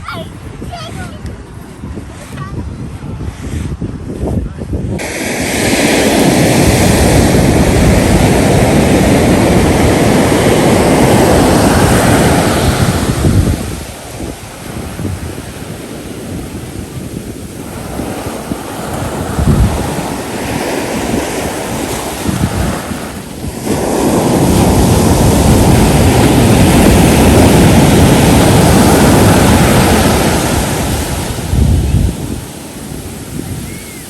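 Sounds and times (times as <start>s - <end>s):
wind buffeting microphone: 0.0s - 34.0s
ocean surf breaking on beach: 4.9s - 34.0s.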